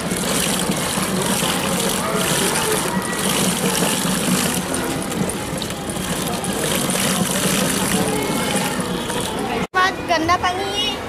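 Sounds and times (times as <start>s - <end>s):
water and clothes sloshing: 0.0s - 9.7s.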